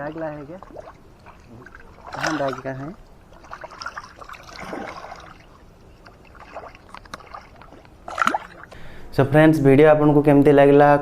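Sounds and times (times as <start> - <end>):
water splashing and sloshing: 0.0 - 9.0.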